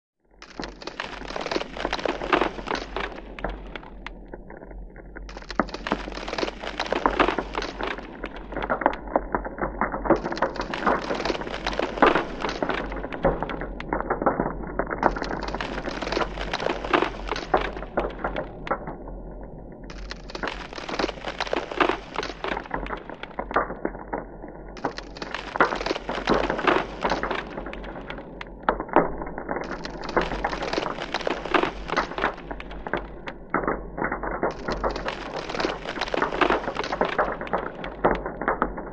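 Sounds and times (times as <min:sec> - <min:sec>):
thin ice cracking and breaking: 0:00.4 - 0:19.0, 0:19.9 - 0:38.9.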